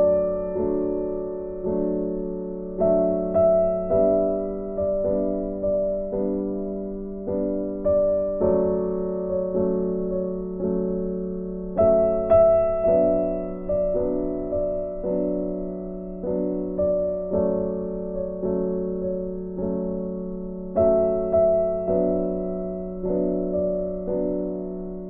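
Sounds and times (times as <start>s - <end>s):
gentle piano tune: 0.0s - 25.0s.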